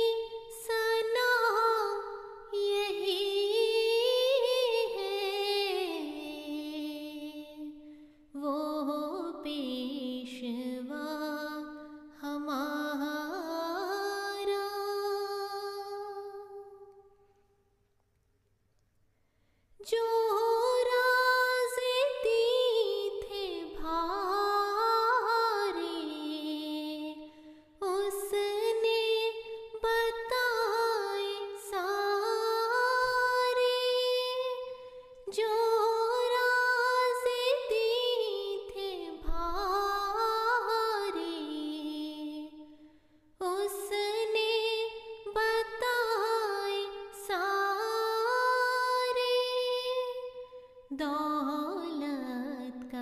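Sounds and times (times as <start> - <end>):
woman singing unaccompanied: 0.0 - 7.8, 8.4 - 16.9, 19.8 - 42.7, 43.4 - 53.0.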